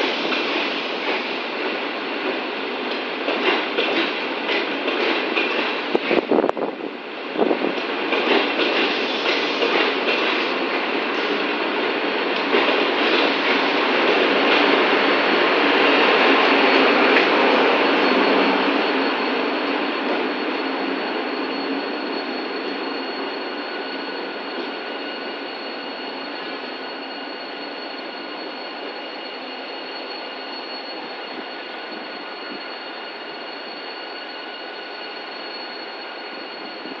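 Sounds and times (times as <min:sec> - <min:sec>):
passenger train pulling away: 0:00.0 - 0:37.0.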